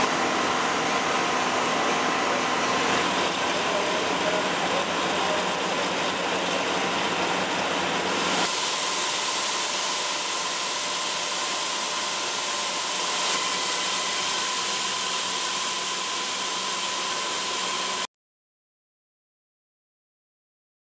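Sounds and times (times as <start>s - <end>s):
lathe whining: 0.0s - 18.1s.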